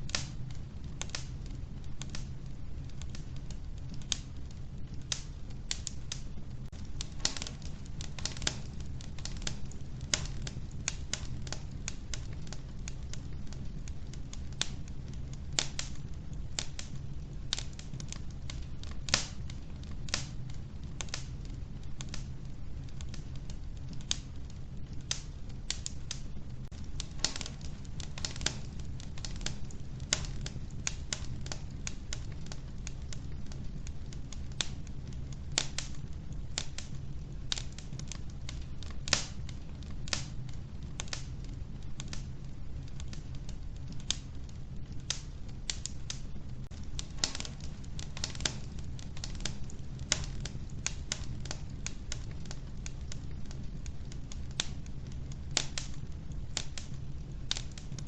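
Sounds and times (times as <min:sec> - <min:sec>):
burning logs crackling and popping: 0:00.0 - 0:58.0
low rumble of flames: 0:00.0 - 0:58.0.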